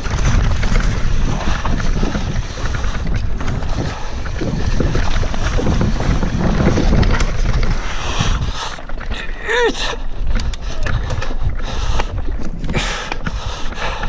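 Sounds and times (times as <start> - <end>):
tyres rumbling on dirt: 0.0 - 11.6
bike rattles and clicks: 0.0 - 14.0
wind buffeting microphone: 0.0 - 14.0.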